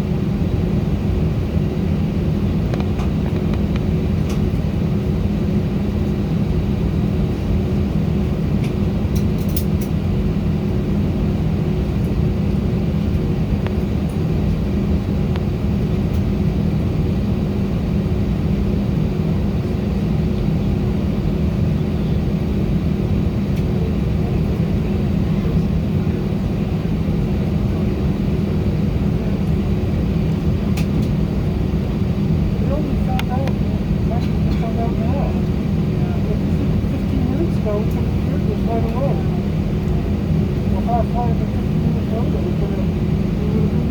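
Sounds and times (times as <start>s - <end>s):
airliner cabin engine drone: 0.0s - 43.9s.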